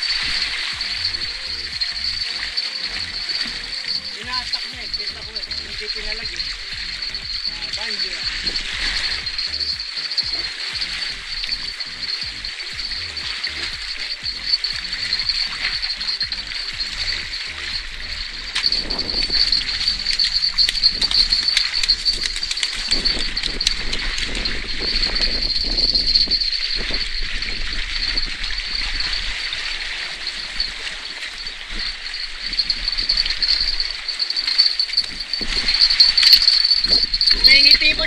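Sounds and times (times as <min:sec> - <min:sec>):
insect chirring: 0:00.0 - 0:38.0.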